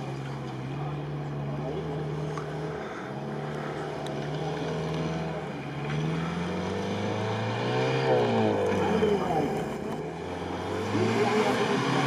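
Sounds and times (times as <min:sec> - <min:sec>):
engine labouring through sand: 0:00.0 - 0:12.0.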